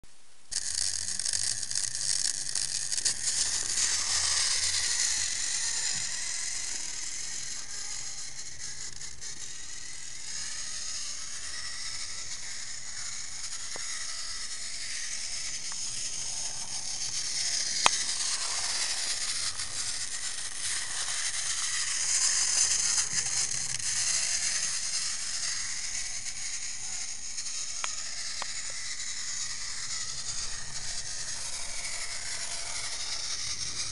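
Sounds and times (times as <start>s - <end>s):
toy train motor whirring: 0.5s - 33.9s.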